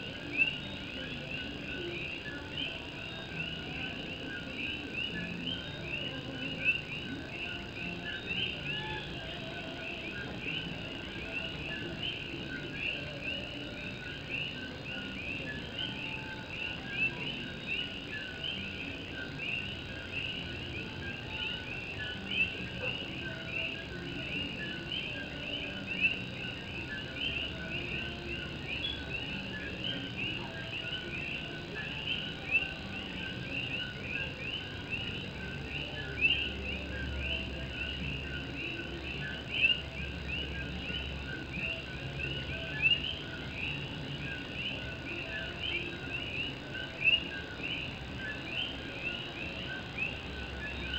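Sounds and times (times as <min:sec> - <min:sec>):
chorus of frogs calling: 0:00.0 - 0:50.9.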